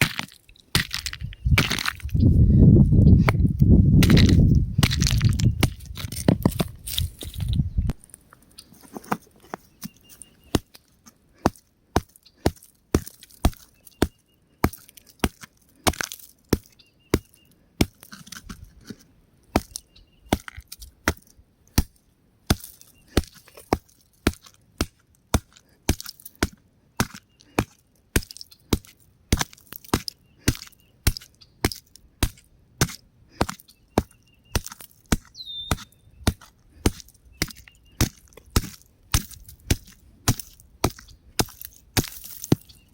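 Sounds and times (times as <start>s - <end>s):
rock cracking and crumbling: 0.0s - 9.8s, 10.5s - 21.9s, 22.5s - 42.9s.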